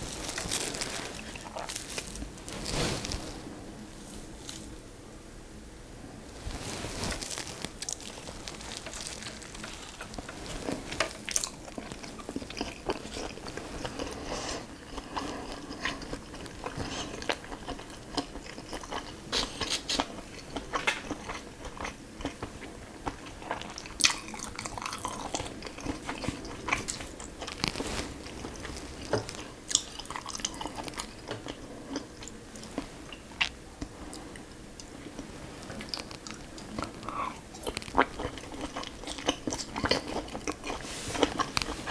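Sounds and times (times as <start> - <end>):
chewing and crunching food: 0.0 - 4.8, 6.3 - 41.9.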